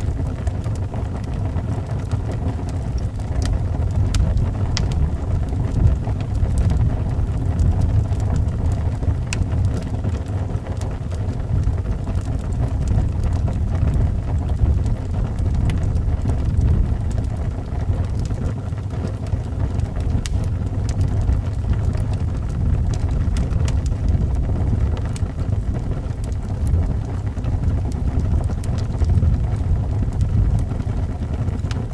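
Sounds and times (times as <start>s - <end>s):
wind howling around a house: 0.0s - 31.9s
wood fire crackling: 0.0s - 31.9s.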